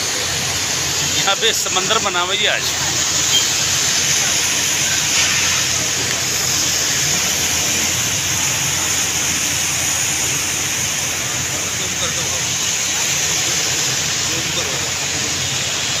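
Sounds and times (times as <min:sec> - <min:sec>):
heavy rain on a flooded street: 0:00.0 - 0:16.0
low traffic rumble: 0:00.0 - 0:16.0.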